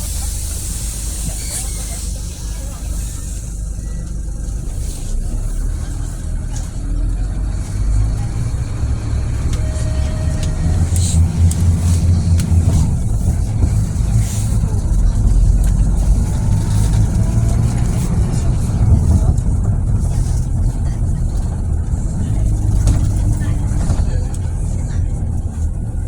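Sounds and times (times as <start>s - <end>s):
bus diesel engine accelerating: 0.0s - 26.0s.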